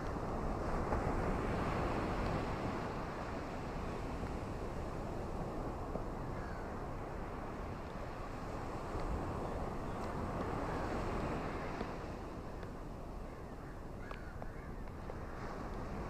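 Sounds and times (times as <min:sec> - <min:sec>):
ocean surf: 0:00.0 - 0:16.0.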